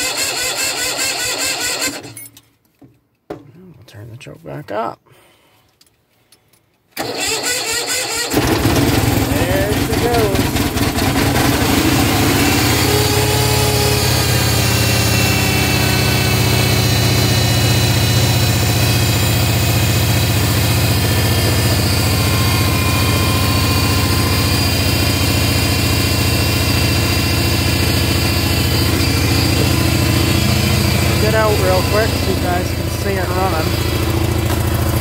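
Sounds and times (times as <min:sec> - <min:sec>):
tractor engine running: 0:07.0 - 0:35.0.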